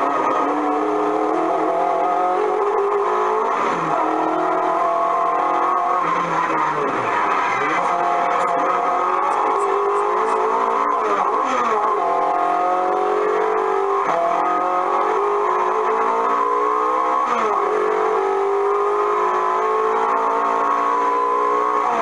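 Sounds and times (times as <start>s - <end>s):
car engine revving through speaker: 0.0s - 22.0s.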